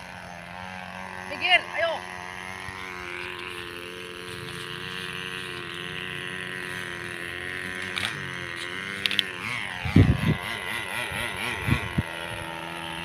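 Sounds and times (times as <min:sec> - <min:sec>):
model plane engine whining: 0:00.0 - 0:13.0.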